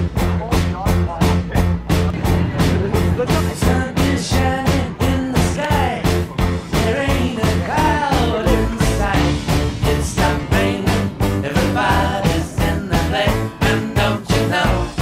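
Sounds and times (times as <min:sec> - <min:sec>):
upbeat song with drum beat: 0:00.0 - 0:15.0.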